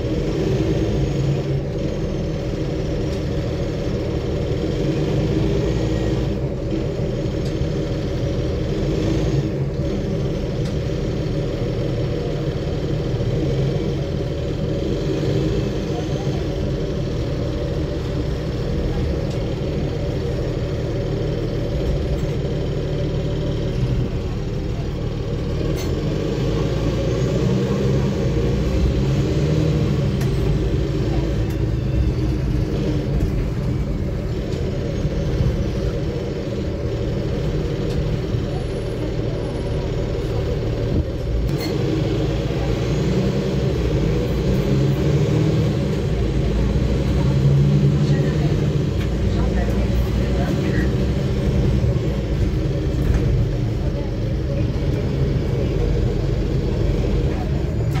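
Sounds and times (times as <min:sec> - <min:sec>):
bus engine hum: 0:00.0 - 0:58.0
tyre road noise: 0:00.0 - 0:58.0.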